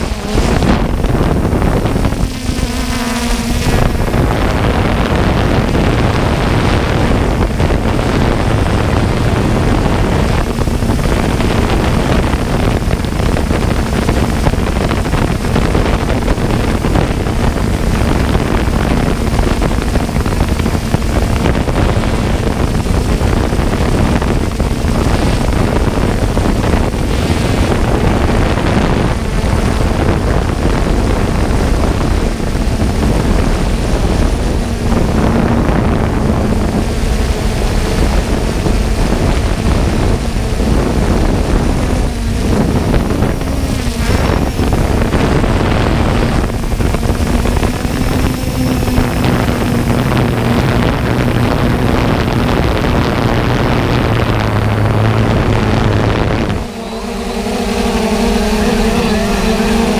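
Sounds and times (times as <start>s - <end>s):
drone propellers whirring: 0.0s - 59.9s
wind buffeting microphone: 0.0s - 59.9s.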